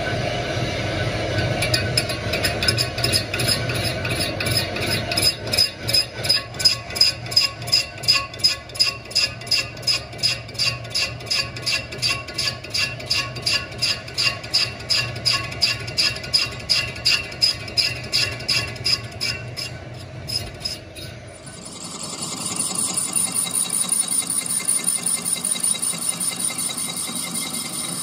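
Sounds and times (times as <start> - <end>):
machine noise: 0.0 - 28.0.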